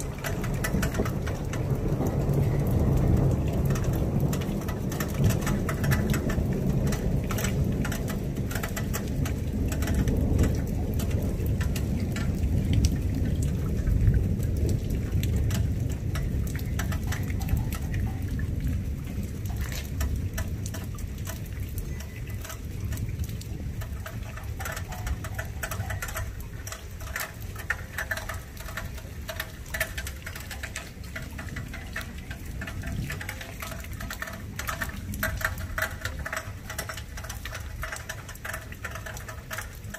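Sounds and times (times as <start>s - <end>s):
heavy rain falling: 0.0s - 39.9s
rain dripping with sharp ticks: 0.0s - 39.9s
thunder rumbling: 0.0s - 39.9s.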